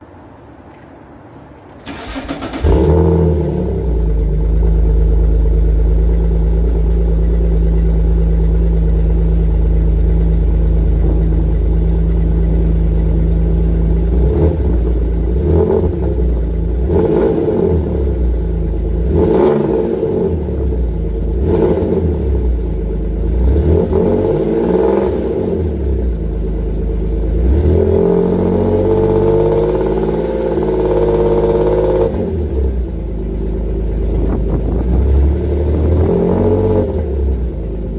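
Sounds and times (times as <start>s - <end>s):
car engine idling: 1.5s - 37.9s
engine throttle blips: 1.8s - 37.9s.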